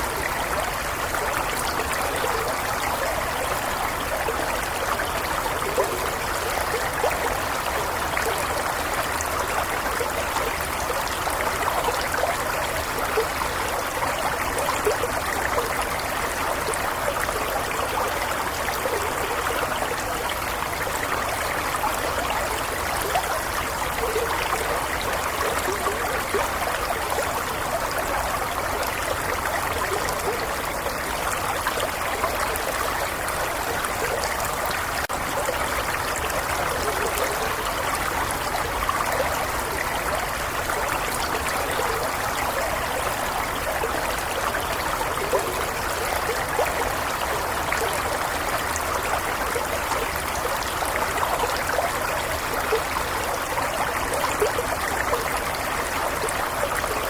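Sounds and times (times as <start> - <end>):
small stream babbling: 0.0 - 57.0.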